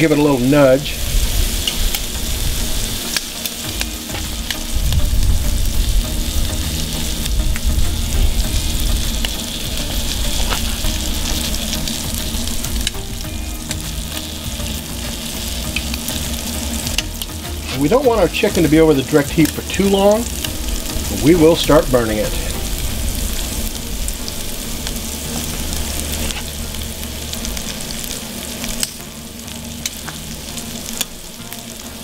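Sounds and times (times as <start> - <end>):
chicken sizzling on a grill: 0.0 - 32.0
shrimp frying in oil: 0.0 - 32.0
low rumble: 0.9 - 31.4.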